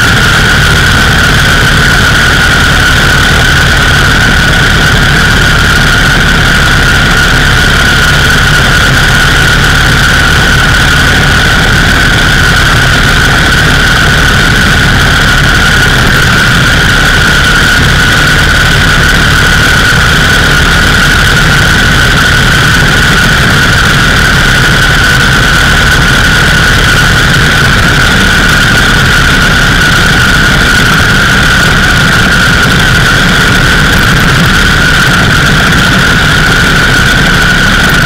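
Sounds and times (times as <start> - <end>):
motorcycle engine running: 0.0 - 38.0
steady high whine: 0.0 - 38.0
wind rush on microphone: 0.0 - 38.0.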